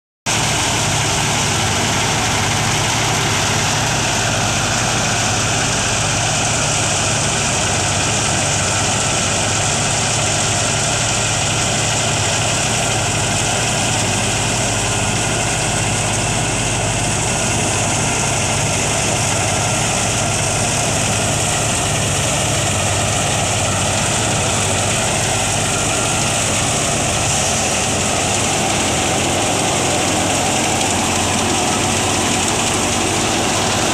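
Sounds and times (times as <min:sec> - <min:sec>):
tractor engine drone: 0:00.2 - 0:33.9
wheat thresher mechanical rush: 0:00.3 - 0:33.9.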